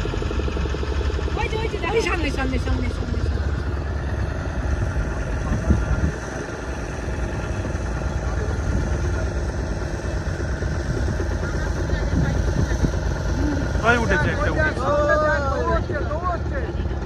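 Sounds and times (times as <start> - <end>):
motorboat engine humming: 0.0 - 17.0.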